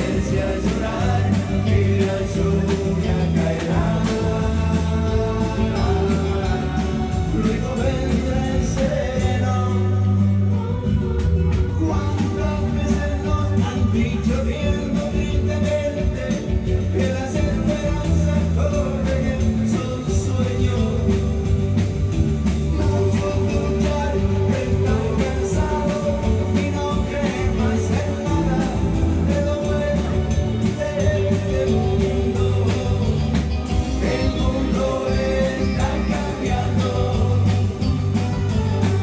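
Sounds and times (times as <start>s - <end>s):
band playing: 0.0s - 39.0s
man singing into a microphone: 0.0s - 39.0s.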